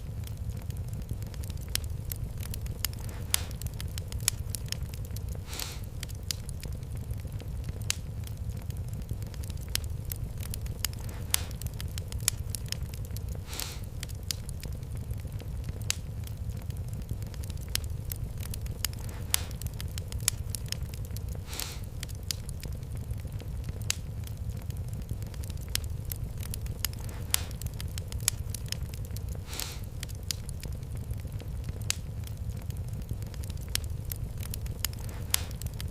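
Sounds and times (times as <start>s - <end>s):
fire hiss: 0.0s - 35.9s
low steady rumble: 0.0s - 35.9s
wood fire crackling: 0.0s - 35.9s.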